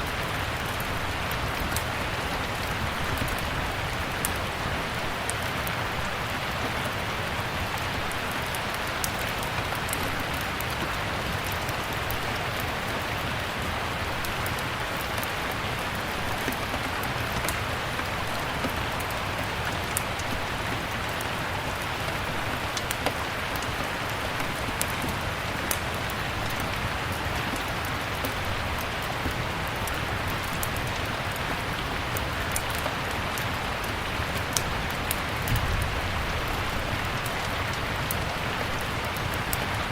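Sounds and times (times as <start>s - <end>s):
steady rain: 0.0s - 39.9s
wood fire crackling and popping: 0.0s - 39.9s.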